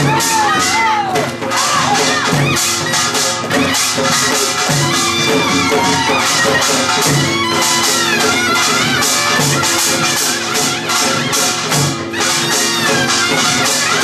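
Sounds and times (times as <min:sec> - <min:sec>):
metallic percussion clatter: 0:00.0 - 0:14.0
wind instrument melody: 0:00.0 - 0:14.0.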